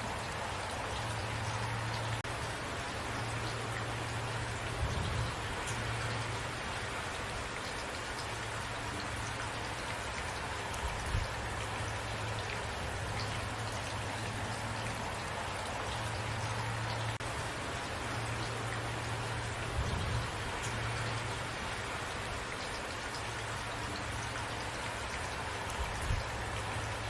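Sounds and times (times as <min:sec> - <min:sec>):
raindrops ticking on a surface: 0:00.0 - 0:27.0
steady rain hiss: 0:00.0 - 0:27.0.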